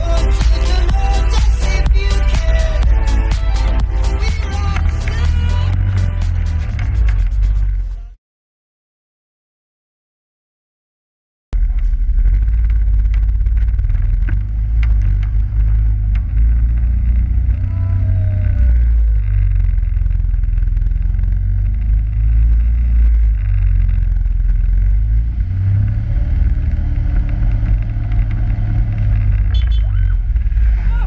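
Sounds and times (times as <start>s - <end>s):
atv engine running: 0.0s - 8.1s, 11.6s - 31.0s.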